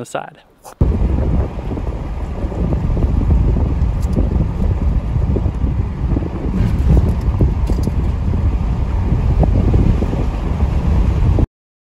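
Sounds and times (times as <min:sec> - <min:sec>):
wind noise: 0:00.6 - 0:11.5
tyres rumbling on gravel: 0:00.8 - 0:10.7.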